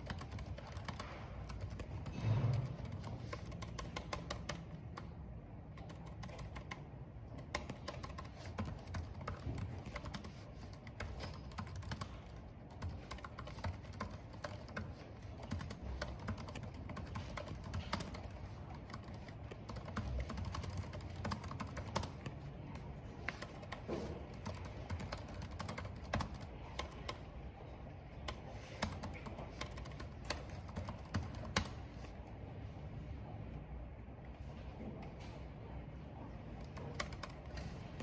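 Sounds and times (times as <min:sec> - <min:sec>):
typing on computer keyboard: 0:00.0 - 0:27.3, 0:28.1 - 0:32.0, 0:36.5 - 0:38.0.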